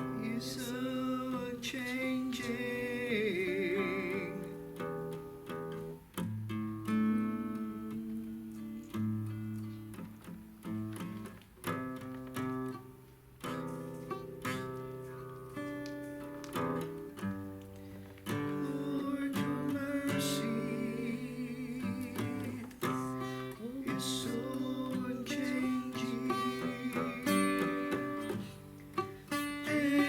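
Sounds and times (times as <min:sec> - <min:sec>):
acoustic guitar plucked and strummed: 0:00.0 - 0:30.0.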